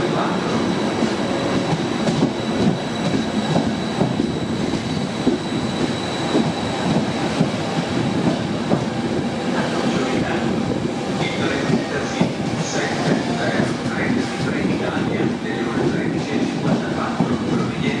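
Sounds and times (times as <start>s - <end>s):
train rumble: 0.0s - 18.0s
train wheels clattering: 0.1s - 18.0s.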